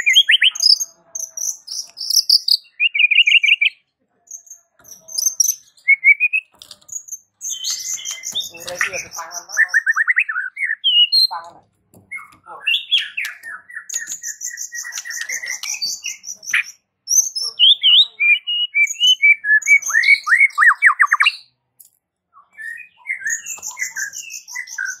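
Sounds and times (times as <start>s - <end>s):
songbird singing: 0.0s - 21.6s, 22.3s - 25.0s.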